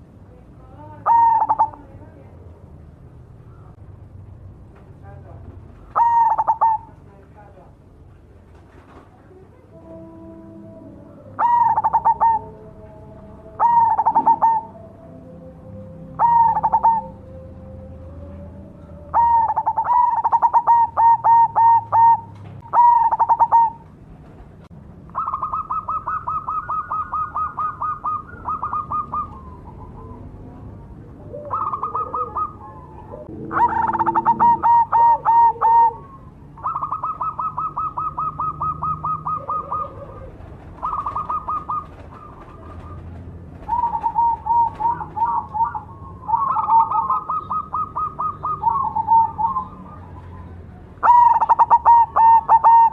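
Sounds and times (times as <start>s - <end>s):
dove cooing: 0.7s - 2.2s, 5.8s - 7.0s, 8.8s - 24.4s, 25.1s - 52.9s.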